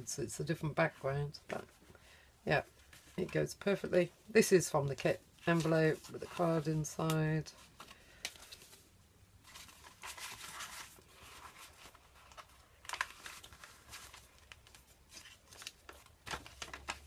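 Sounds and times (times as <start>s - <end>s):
paper and card rustling: 2.7s - 17.0s.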